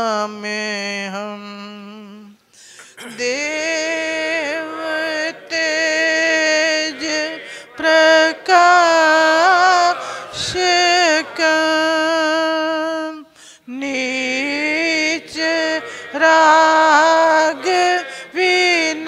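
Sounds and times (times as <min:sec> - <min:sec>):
slow devotional hymn singing: 0:00.0 - 0:19.0.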